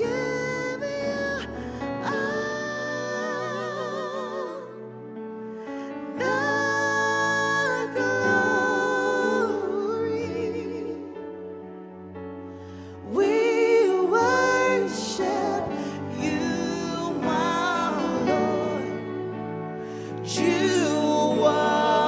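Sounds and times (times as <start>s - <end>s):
gospel song sung by three voices: 0.0s - 22.0s.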